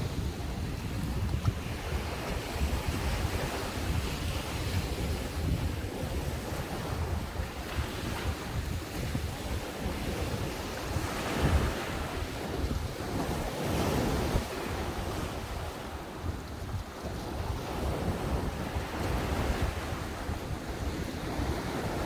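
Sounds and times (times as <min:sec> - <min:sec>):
waves breaking on beach: 0:00.0 - 0:22.0
wind rumbling on microphone: 0:00.0 - 0:22.0.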